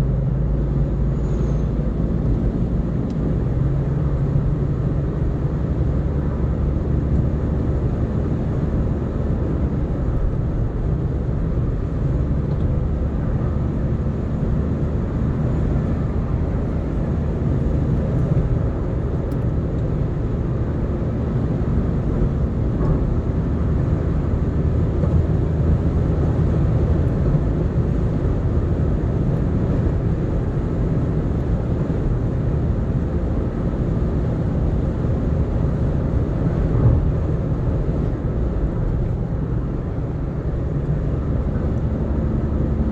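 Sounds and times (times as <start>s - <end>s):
car engine hum: 0.0s - 42.9s.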